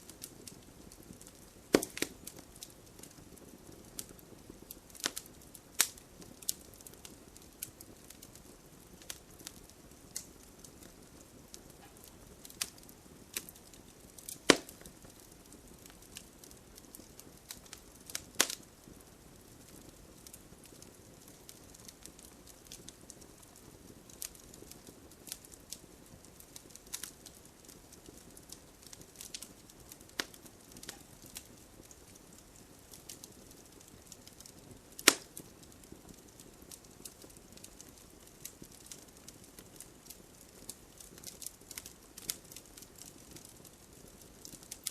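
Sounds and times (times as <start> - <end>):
loud fire pops: 0.0 - 44.9
wood fire crackling: 0.0 - 44.9.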